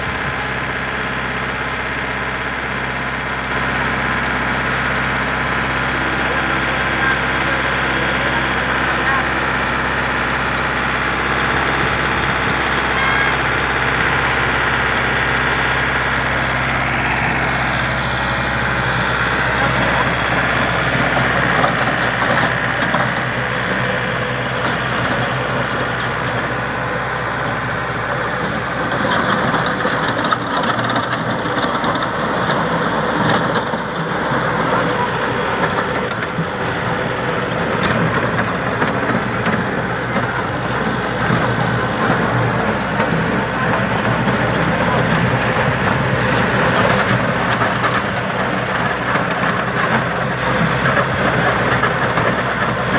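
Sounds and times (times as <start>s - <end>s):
rotary tiller churning soil: 0.0s - 52.9s
tractor diesel engine running: 0.0s - 52.9s.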